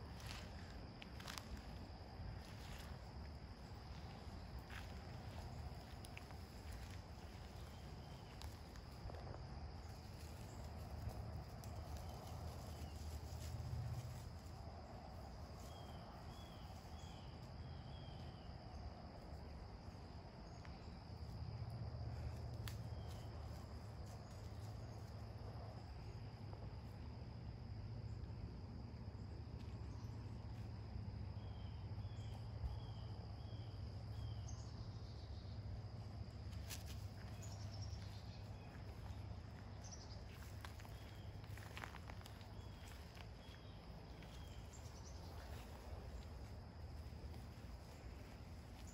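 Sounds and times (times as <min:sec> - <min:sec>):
high insect trill: 0:00.0 - 0:48.9.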